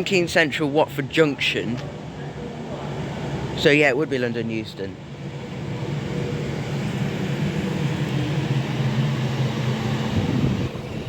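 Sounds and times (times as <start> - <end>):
train machinery humming and rumbling: 0.0 - 11.0.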